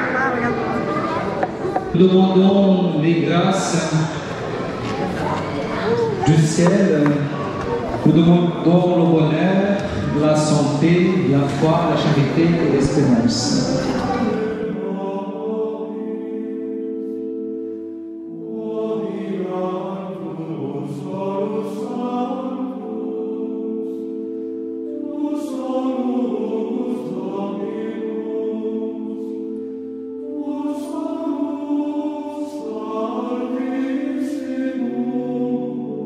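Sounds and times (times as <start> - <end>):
choir singing: 0.0 - 36.0.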